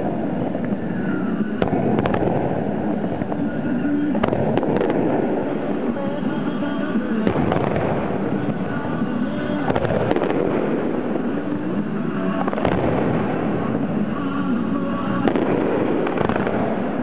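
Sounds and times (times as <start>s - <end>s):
fireworks firing and bursting: 0.0s - 17.0s
sharp fireworks reports: 0.0s - 17.0s.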